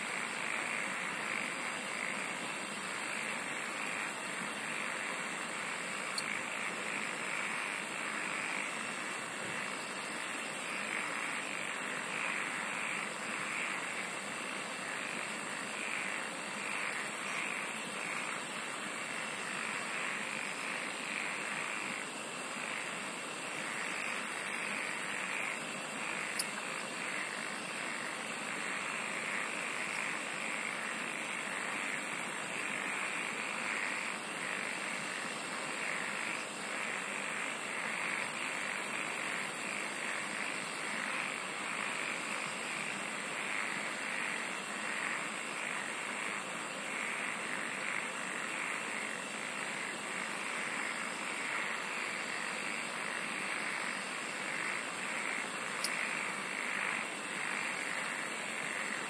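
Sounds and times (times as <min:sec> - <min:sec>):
high pulsing insect trill: 0:00.0 - 0:59.0
insects chorus: 0:00.0 - 0:59.0.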